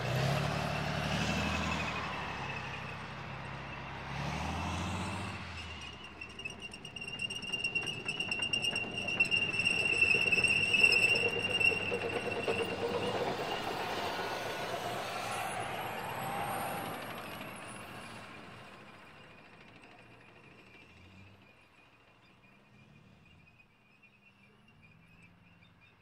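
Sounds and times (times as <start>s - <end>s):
tank passing by: 0.0s - 26.0s
high steady squeal: 0.4s - 4.1s, 4.9s - 22.6s.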